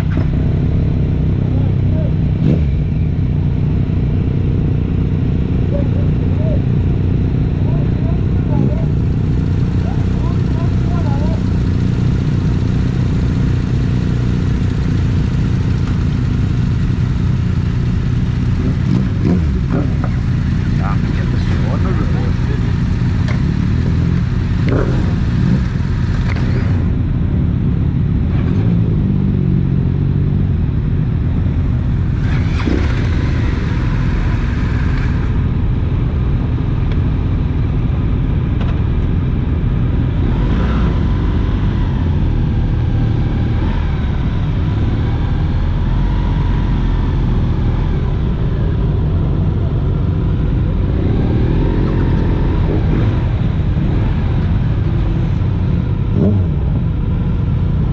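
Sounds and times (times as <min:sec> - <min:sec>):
motorcycle engine rumbling: 0:00.0 - 0:57.9.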